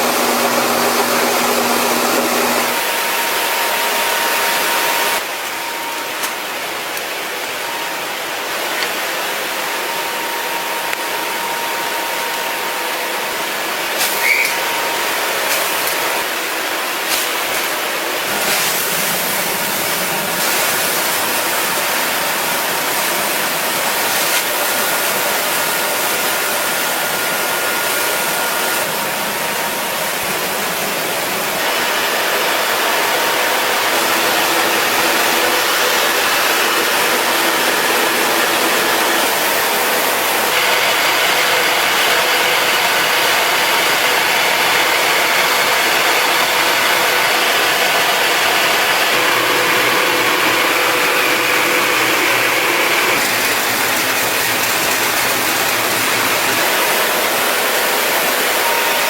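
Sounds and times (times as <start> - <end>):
farm machinery engine running: 0.0 - 5.3, 14.2 - 59.0.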